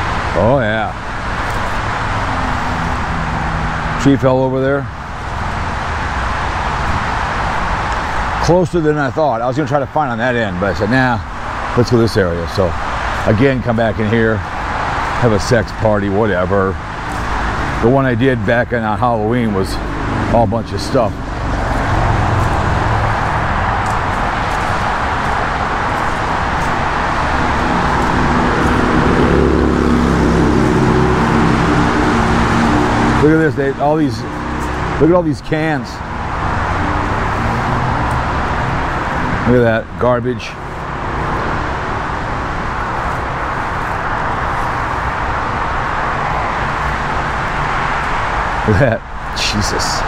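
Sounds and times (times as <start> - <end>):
engine hum: 0.0 - 50.0
highway traffic: 0.0 - 50.0.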